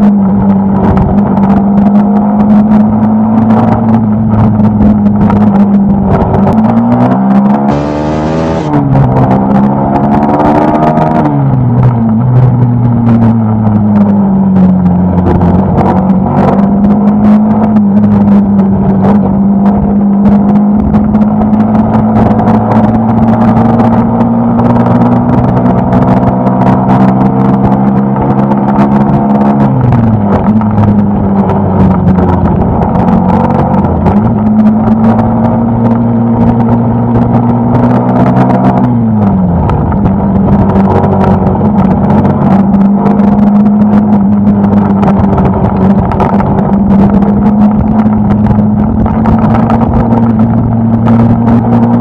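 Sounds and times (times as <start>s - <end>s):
motorcycle engine cruising: 0.0s - 52.0s
wind noise on microphone: 0.0s - 52.0s.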